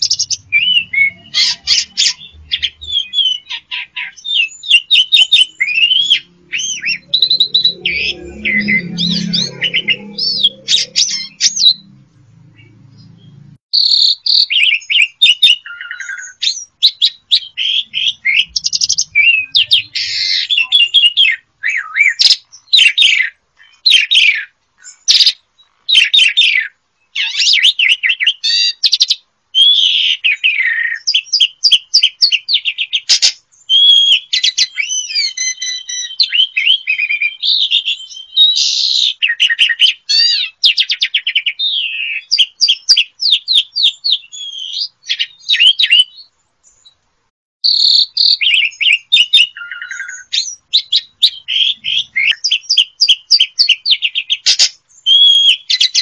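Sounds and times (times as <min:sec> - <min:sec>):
starling singing: 0:00.0 - 0:46.3, 0:47.6 - 0:56.0.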